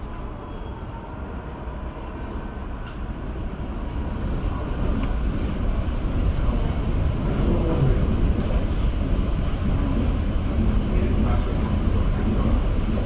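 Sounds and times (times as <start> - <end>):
jet engines rumbling: 1.3 - 13.0.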